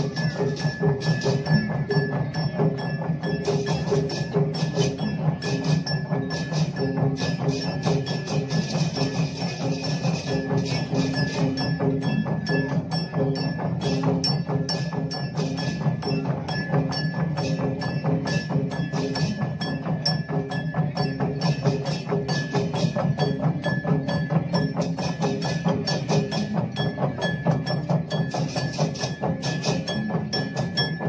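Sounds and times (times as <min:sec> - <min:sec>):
percussion: 0:00.0 - 0:31.0
wooden cattle bells clattering: 0:00.0 - 0:31.0.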